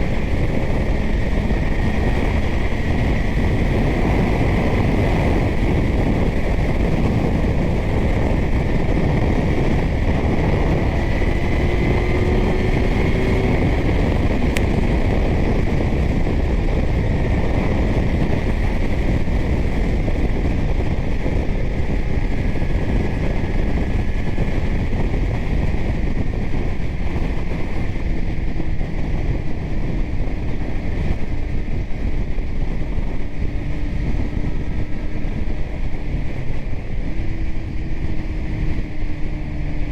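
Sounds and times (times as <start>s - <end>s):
faint motorcycle engine: 0.0s - 39.9s
wind rushing over microphone: 0.0s - 39.9s.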